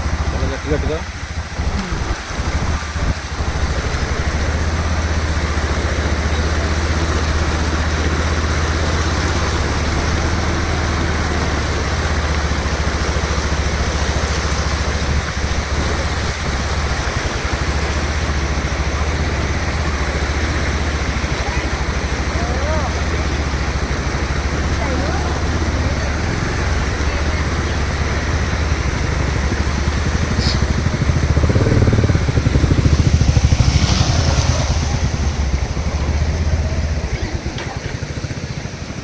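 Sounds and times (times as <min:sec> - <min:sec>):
motorcycle engine drone: 0:00.0 - 0:39.0
water rushing: 0:00.0 - 0:39.0.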